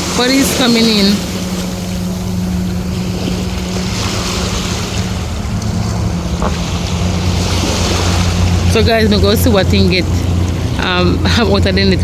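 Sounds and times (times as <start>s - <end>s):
low engine hum: 0.0s - 12.0s
surf washing: 0.0s - 12.0s
wind buffeting microphone: 0.0s - 12.0s.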